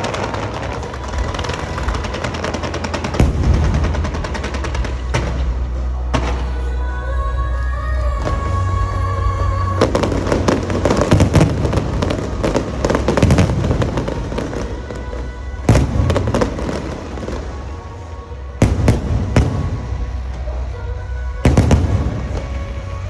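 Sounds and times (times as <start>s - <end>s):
fireworks bursting and crackling: 0.0s - 6.8s, 8.2s - 23.0s
background music: 0.0s - 23.0s.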